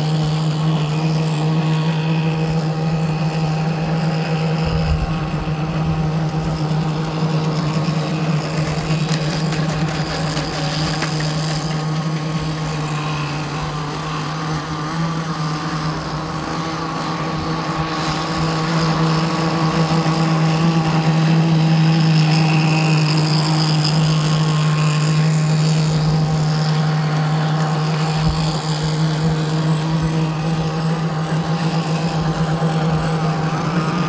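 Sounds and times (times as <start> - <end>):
model boat engine running: 0.0 - 34.0.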